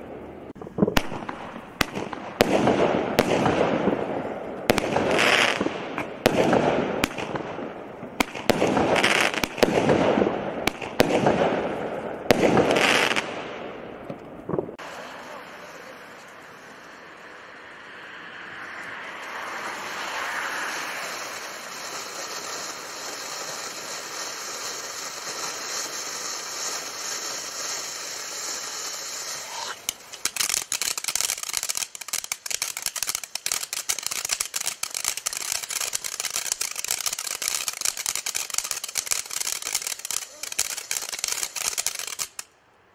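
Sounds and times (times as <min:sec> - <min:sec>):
firework fountain hissing: 0:00.0 - 0:13.4, 0:14.8 - 0:42.5
firework crackling: 0:00.0 - 0:42.6.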